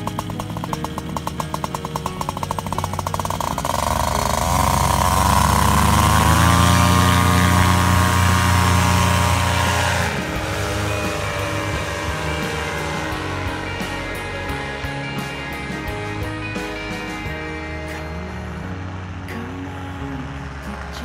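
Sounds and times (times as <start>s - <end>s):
paramotor engine: 0.0s - 21.0s.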